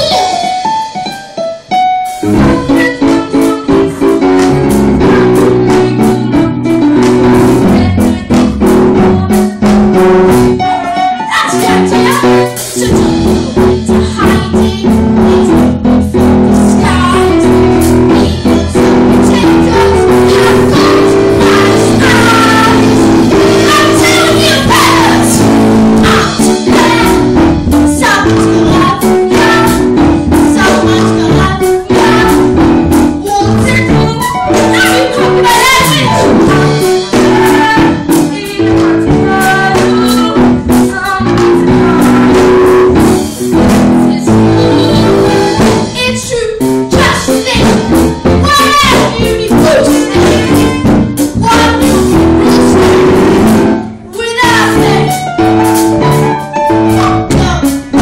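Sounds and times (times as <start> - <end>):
lively instrumental accompaniment: 0.0 - 58.0
cast singing musical song: 2.2 - 58.0.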